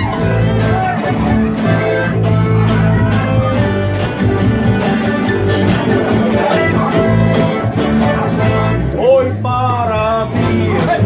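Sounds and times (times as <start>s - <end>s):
acoustic guitars and plucked strings: 0.0s - 11.0s.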